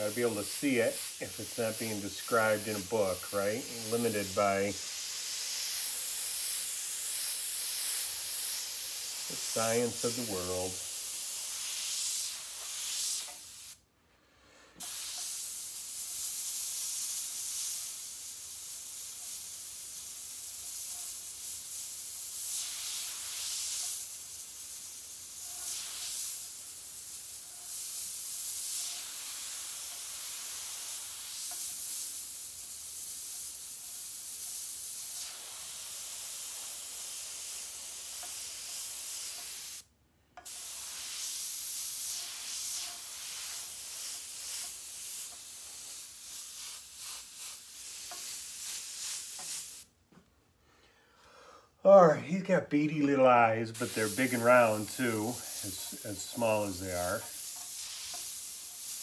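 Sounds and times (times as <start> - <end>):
airbrush hissing: 0.0 - 13.9, 14.8 - 50.0, 51.9 - 59.0.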